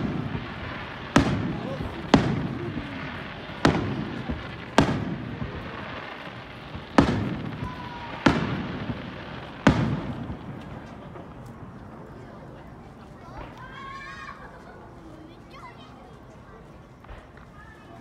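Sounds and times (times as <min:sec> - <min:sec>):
fireworks booming with echo: 0:00.0 - 0:13.7, 0:16.7 - 0:18.0.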